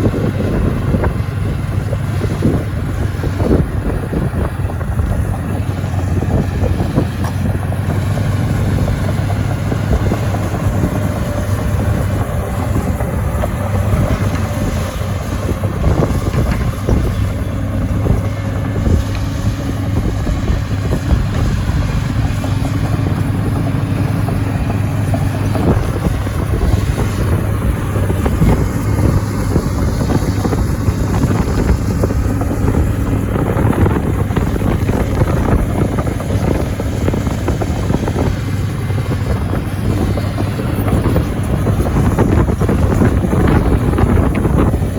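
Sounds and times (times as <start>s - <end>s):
excavator diesel engine droning: 0.0s - 44.9s
wind noise on microphone: 0.0s - 44.9s.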